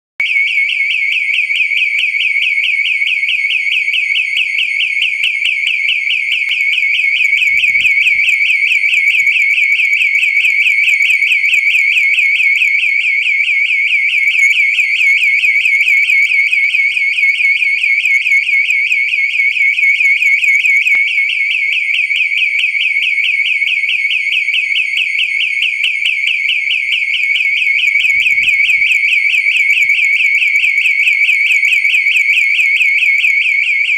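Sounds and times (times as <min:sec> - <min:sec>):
warbling electronic alarm: 0:00.2 - 0:33.9.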